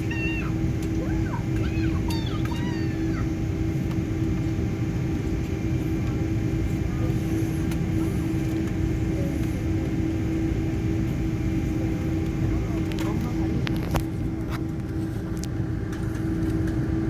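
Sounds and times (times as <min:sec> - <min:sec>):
airliner cabin droning hum: 0:00.0 - 0:17.0.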